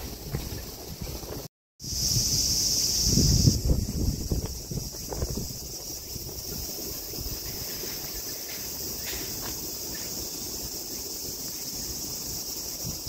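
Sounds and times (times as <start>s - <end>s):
wind rumbling on microphone: 0.0s - 13.0s
insects shrilling: 0.6s - 13.0s.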